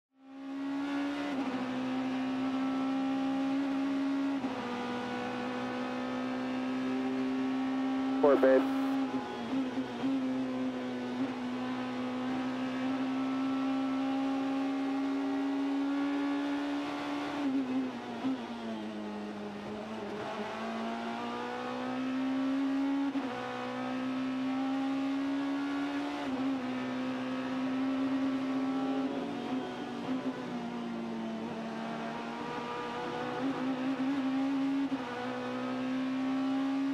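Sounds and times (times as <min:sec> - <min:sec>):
race car engine revving: 0:00.4 - 0:36.9.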